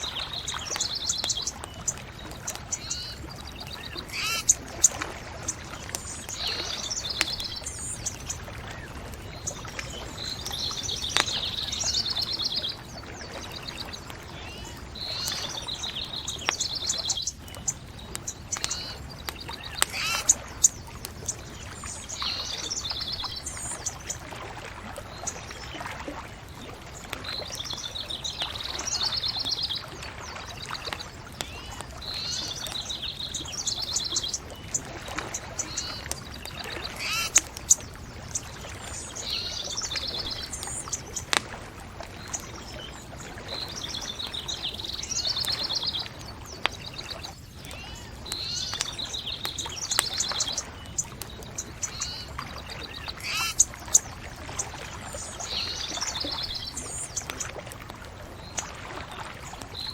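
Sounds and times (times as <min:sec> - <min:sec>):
bonfire crackling and popping: 0:00.0 - 0:58.8, 0:59.4 - 0:59.9
songbirds trilling: 0:00.0 - 0:59.9.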